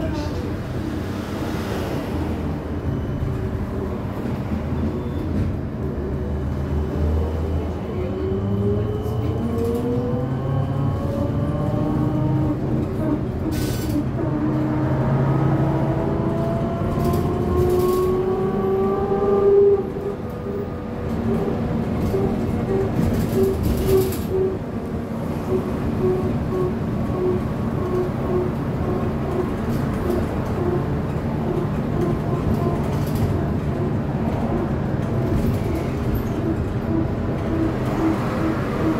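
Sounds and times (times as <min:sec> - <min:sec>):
low road rumble: 0:00.0 - 0:38.9.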